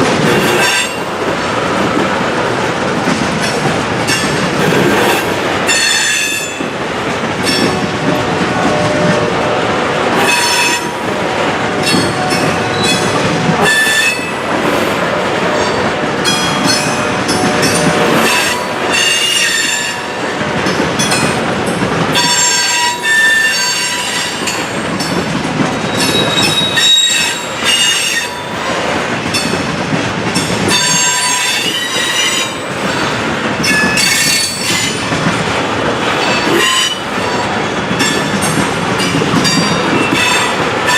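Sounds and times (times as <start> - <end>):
freight train cars rumbling: 0.0 - 40.9.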